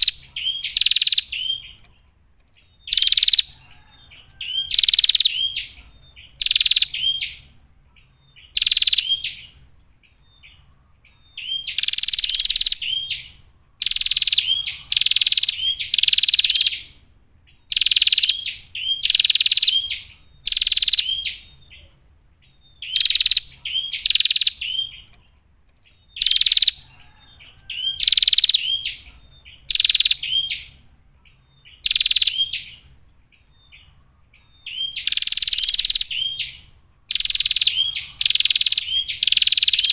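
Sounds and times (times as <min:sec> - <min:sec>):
bird buzzy chattering calls: 0:00.0 - 0:02.0, 0:02.6 - 0:17.0, 0:17.6 - 0:21.9, 0:22.8 - 0:39.9.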